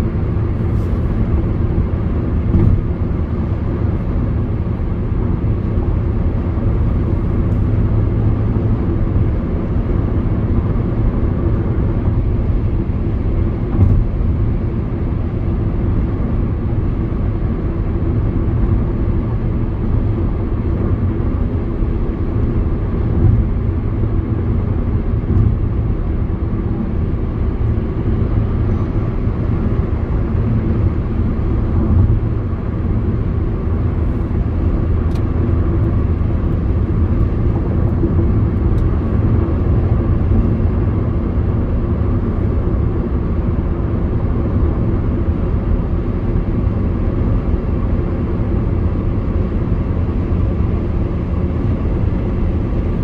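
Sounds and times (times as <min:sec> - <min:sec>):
road and engine rumble in car: 0:00.0 - 0:53.0.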